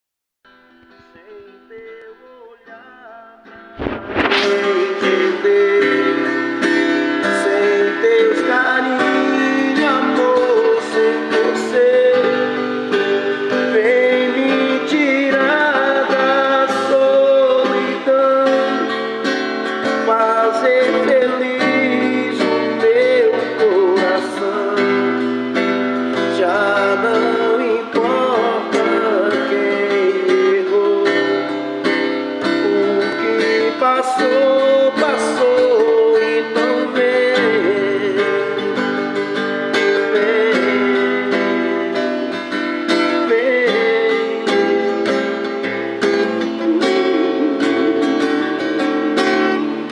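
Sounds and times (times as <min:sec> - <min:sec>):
plucked guitar melody: 0:00.5 - 0:49.9.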